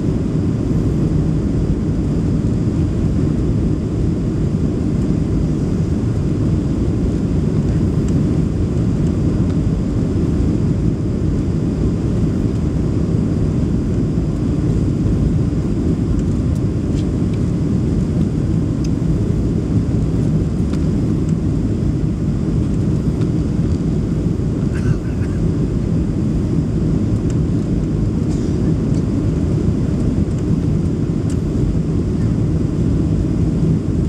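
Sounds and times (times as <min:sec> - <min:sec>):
airplane cabin engine rumble: 0:00.0 - 0:34.0.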